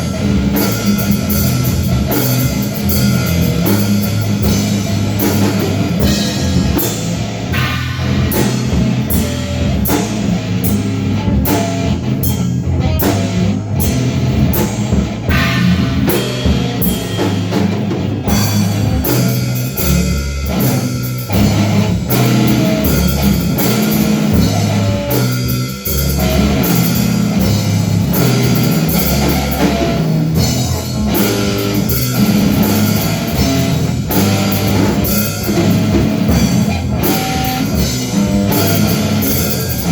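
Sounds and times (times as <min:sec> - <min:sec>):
rock music with drums and guitar: 0:00.0 - 0:39.9.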